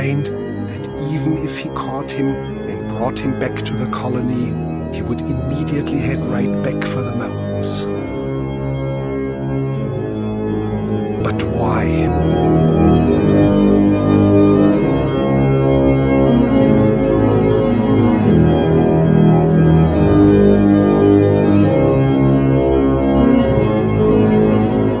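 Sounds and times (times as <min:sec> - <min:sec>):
slow organ music: 0:00.0 - 0:25.0.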